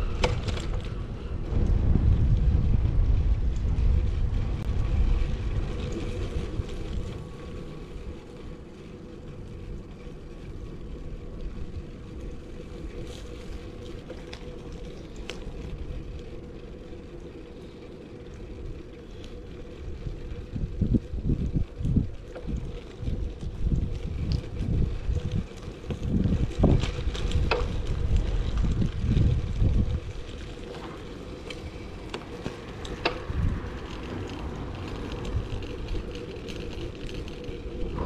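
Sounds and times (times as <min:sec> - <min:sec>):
low road rumble: 0:00.0 - 0:38.0
wind buffeting microphone: 0:00.0 - 0:38.0.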